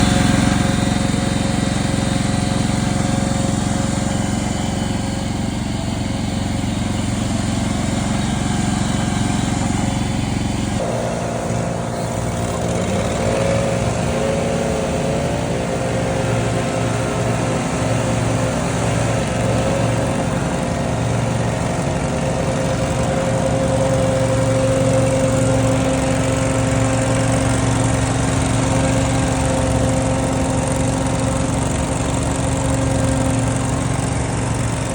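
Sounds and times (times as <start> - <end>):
debris blower engine drone: 0.0 - 34.9.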